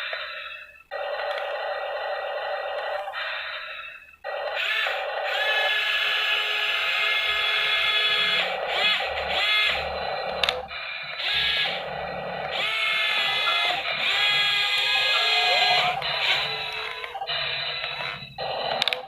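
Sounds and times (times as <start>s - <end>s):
toy excavator electric motors whining: 0.0s - 19.0s.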